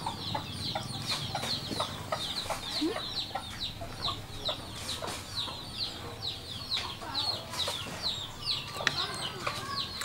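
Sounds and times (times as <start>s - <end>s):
chickens clucking: 0.0s - 10.0s
chicks peeping: 0.0s - 10.0s.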